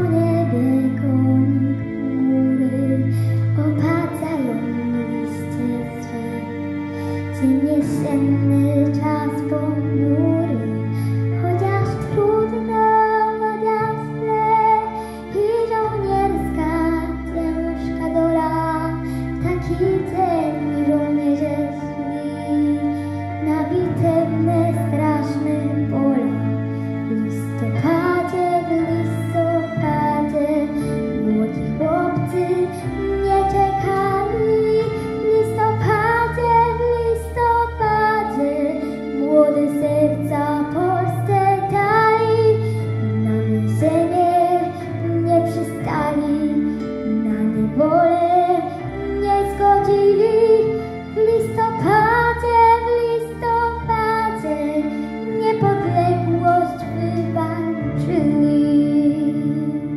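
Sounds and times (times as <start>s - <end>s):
girl singing into microphone: 0.0s - 6.5s, 7.4s - 26.3s, 27.2s - 59.9s
instrumental backing track: 0.0s - 59.9s.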